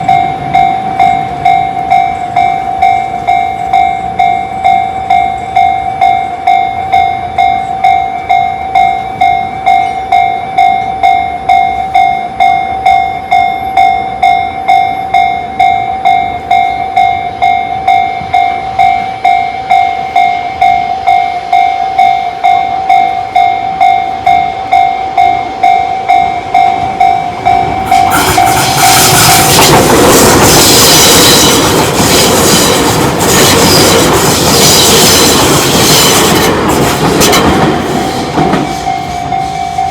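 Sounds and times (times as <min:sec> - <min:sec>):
level crossing alarm dinging: 0:00.0 - 0:39.9
train rolling through crossing: 0:00.0 - 0:39.9.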